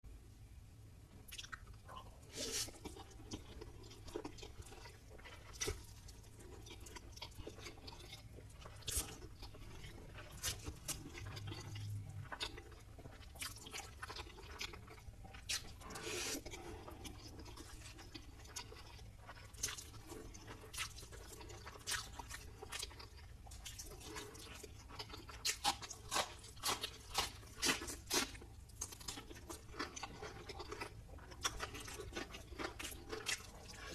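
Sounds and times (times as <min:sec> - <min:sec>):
chewing and crunching food: 0:01.1 - 0:33.9.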